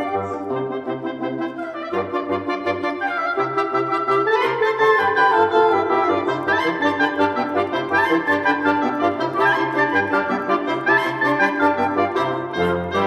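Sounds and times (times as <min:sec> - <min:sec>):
woodwind and brass melody: 0:00.0 - 0:13.0.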